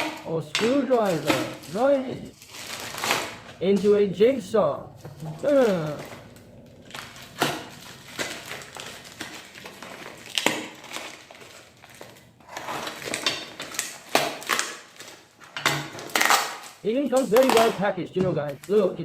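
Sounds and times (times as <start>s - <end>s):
packaging crinkling: 0.0s - 19.0s.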